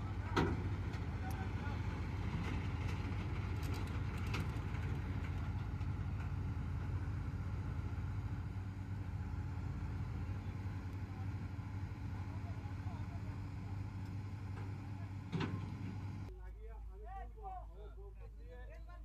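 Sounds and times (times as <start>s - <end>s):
diesel engine idling: 0.0s - 17.2s.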